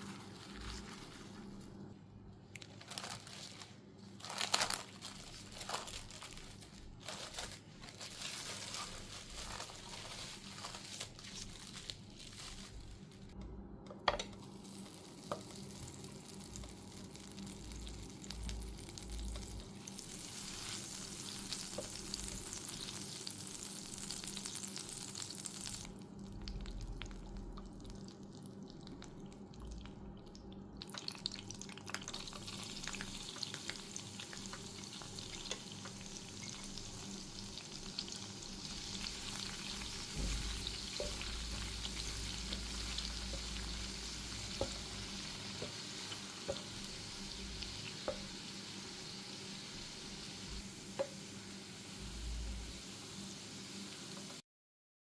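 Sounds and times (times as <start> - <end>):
chicken sizzling in a pan: 4.2 - 13.3, 14.4 - 28.8, 30.8 - 54.4.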